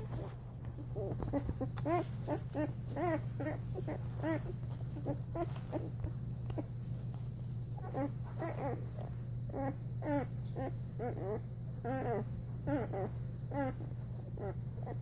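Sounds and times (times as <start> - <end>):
puppies squeaking and whimpering: 0.0 - 6.7, 7.8 - 15.0
steady low hum: 0.0 - 15.0.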